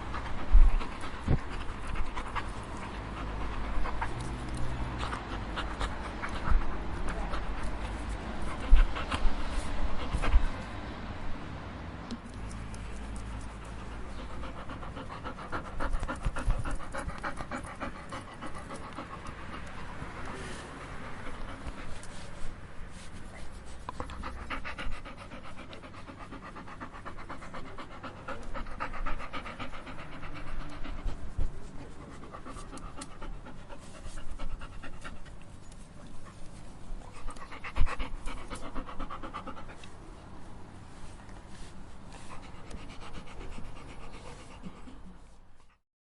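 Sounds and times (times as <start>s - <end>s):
dog panting rapidly: 0.0s - 11.4s, 12.5s - 45.8s.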